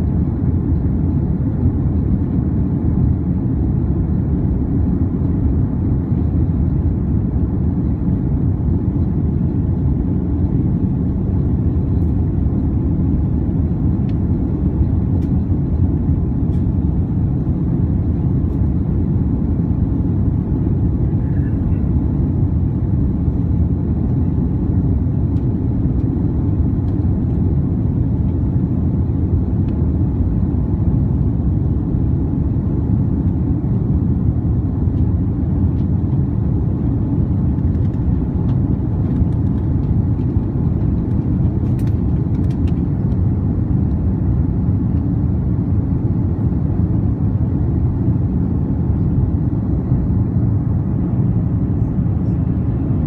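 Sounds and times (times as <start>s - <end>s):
jet engine rumble in cabin: 0.0s - 53.0s.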